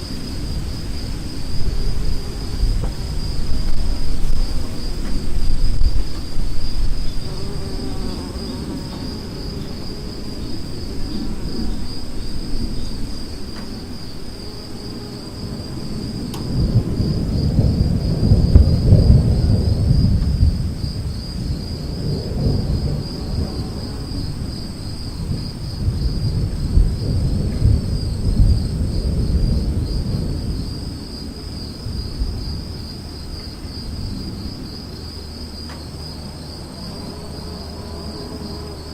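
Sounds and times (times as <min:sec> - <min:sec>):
insects chirring: 0:00.0 - 0:38.9
thunder rumbling: 0:00.0 - 0:38.9.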